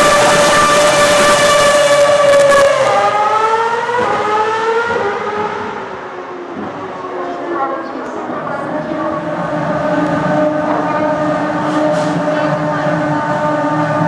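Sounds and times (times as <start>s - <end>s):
race car engine screaming: 0.0s - 6.1s, 8.6s - 14.0s.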